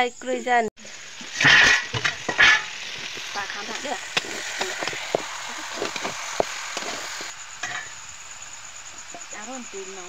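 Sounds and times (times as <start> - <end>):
chicken sizzling in a pan: 0.8 - 10.0.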